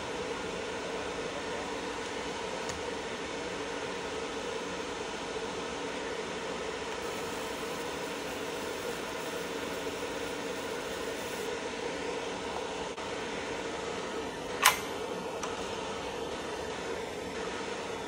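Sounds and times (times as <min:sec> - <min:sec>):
machine fan hum: 0:00.0 - 0:18.0.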